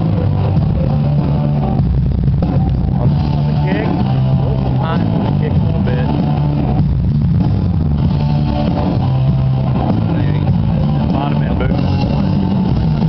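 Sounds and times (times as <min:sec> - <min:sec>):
electric guitar: 0:00.0 - 0:13.0
rock band playing: 0:00.0 - 0:13.0.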